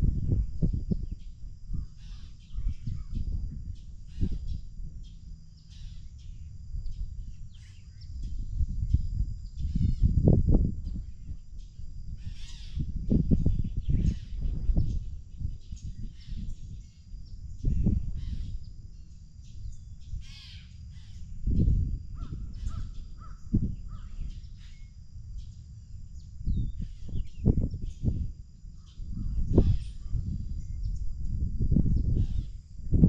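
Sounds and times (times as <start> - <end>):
wind buffeting microphone: 0.0 - 33.0
birds calling: 1.1 - 10.2, 10.9 - 25.6, 28.8 - 31.0, 32.0 - 32.6.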